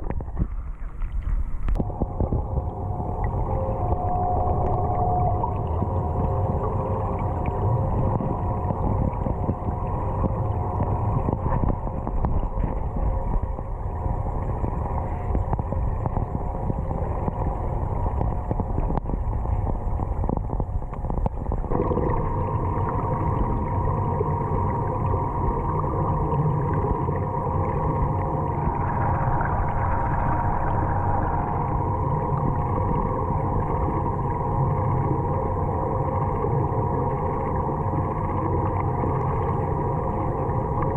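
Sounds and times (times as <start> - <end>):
steady hum tones: 0.0 - 40.9
underwater low rumble: 0.0 - 40.9.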